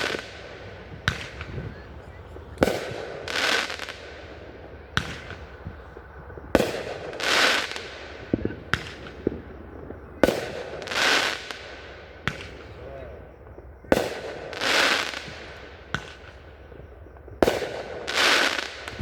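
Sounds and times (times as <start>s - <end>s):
firework bangs: 0.0s - 19.0s.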